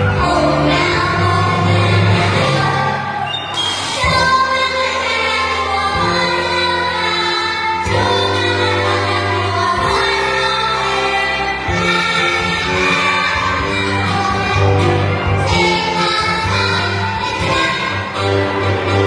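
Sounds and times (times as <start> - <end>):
group singing a children's song: 0.0 - 3.2, 3.9 - 19.0
instrumental accompaniment: 0.0 - 19.0.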